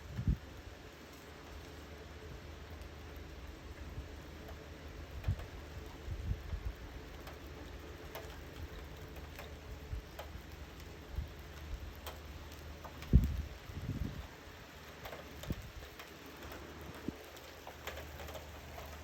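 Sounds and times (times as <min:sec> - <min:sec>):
raindrops ticking on hard surface: 0:00.2 - 0:19.0.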